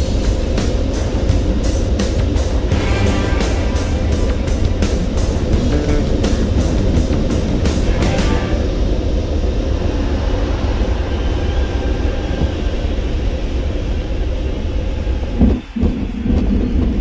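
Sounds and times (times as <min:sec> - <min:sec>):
rushing air in cockpit: 0:00.0 - 0:14.4
low rumble: 0:00.0 - 0:17.0.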